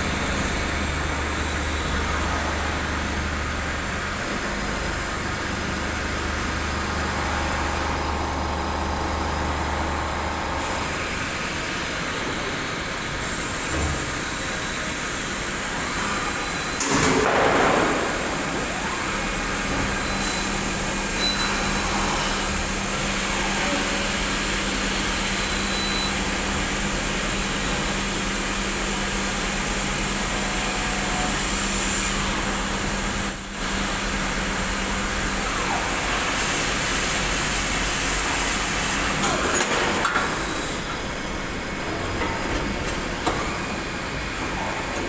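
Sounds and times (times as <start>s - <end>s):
machine mechanical hum: 0.0s - 45.0s.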